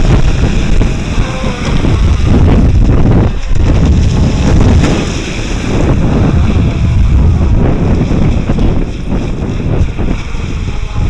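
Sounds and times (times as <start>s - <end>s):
rc speedboat running: 0.0s - 11.0s
wind buffeting microphone: 0.0s - 11.0s.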